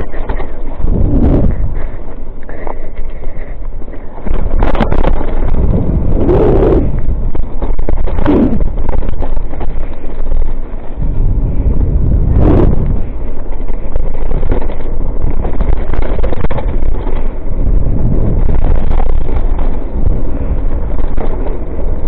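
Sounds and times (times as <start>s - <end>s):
bike knocks and rattles: 0.0s - 6.2s, 7.0s - 11.7s, 12.8s - 22.0s
wind buffeting microphone: 0.0s - 22.0s.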